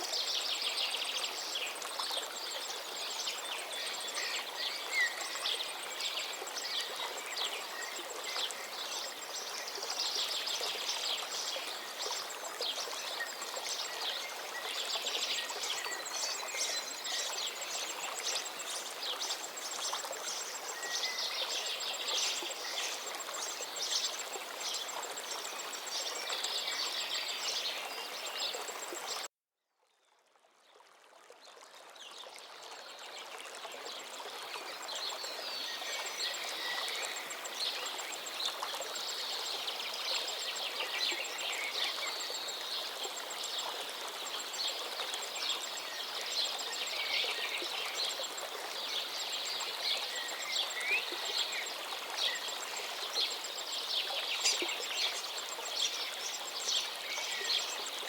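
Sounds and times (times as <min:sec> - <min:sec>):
river water flowing: 0:00.0 - 0:29.3, 0:30.3 - 0:58.0.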